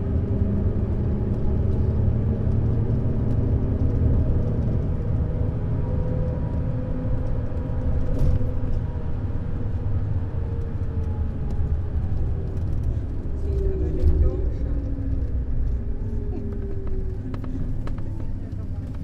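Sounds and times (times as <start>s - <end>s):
diesel engine droning: 0.0s - 19.0s
road rumble: 0.0s - 19.0s.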